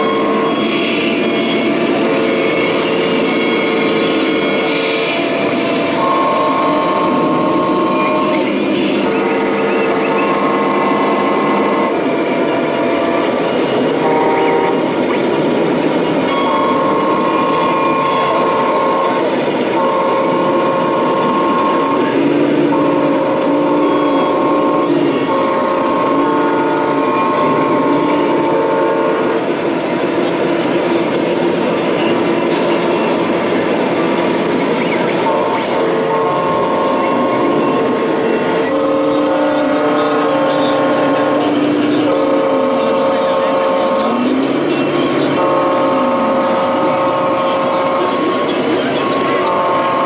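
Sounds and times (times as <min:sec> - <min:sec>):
air horn chords: 0:00.0 - 0:30.1, 0:34.4 - 0:50.0
exhibition hall noise: 0:00.0 - 0:50.0.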